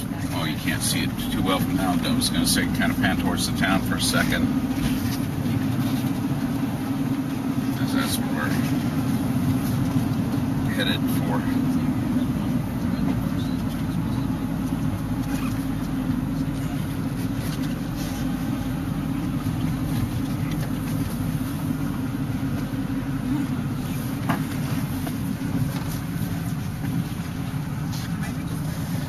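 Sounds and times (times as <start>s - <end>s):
tyre noise on road: 0.0s - 29.0s
van engine drone: 0.0s - 29.0s.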